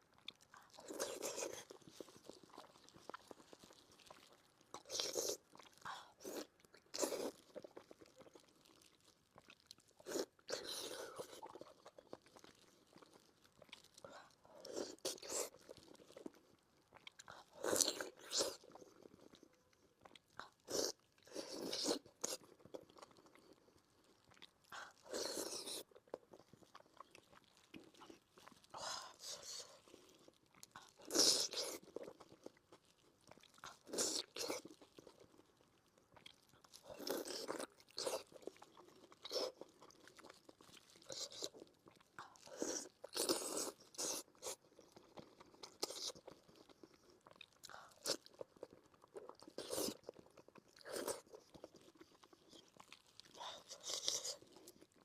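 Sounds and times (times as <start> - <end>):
wet chewing and smacking: 0.0 - 55.0.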